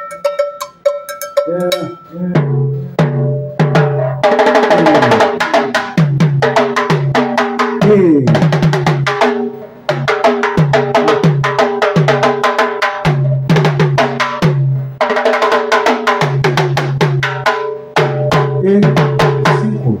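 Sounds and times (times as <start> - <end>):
timbales playing fast rhythms: 0.0 - 20.0.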